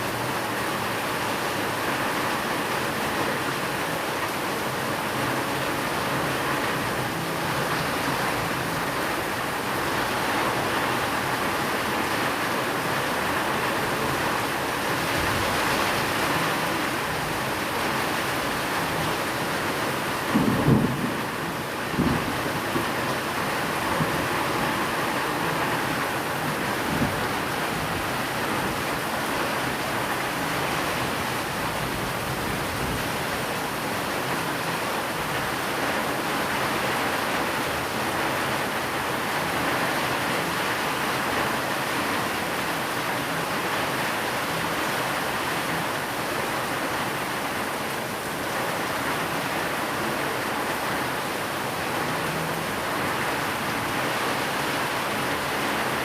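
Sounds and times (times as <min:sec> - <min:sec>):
rain hiss: 0:00.0 - 0:56.0.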